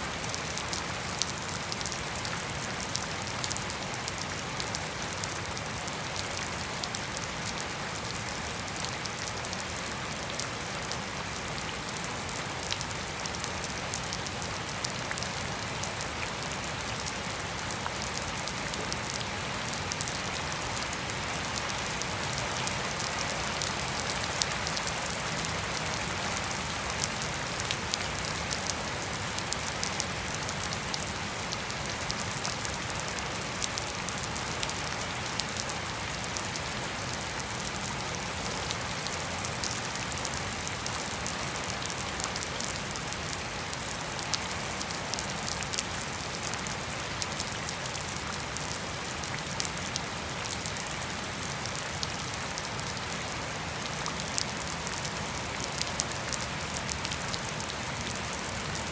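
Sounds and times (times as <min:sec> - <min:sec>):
rain falling on grass: 0:00.0 - 0:58.9.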